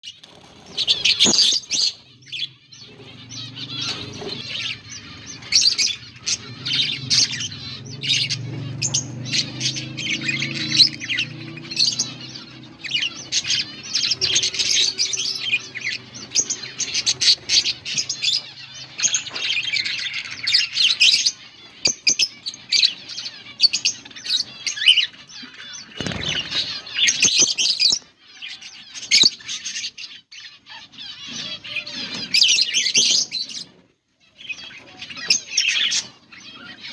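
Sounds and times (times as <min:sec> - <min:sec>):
budgerigars chirping: 0:00.1 - 0:36.9.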